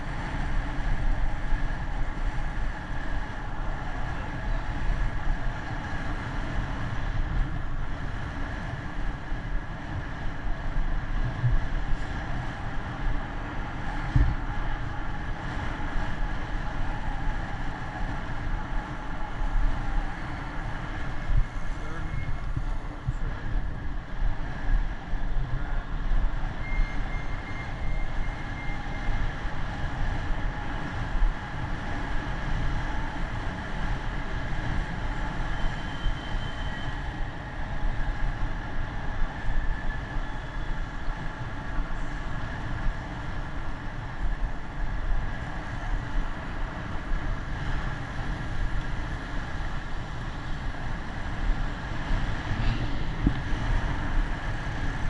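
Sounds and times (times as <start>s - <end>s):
road noise: 0.0s - 55.0s
wind rumble on microphone: 0.0s - 55.0s.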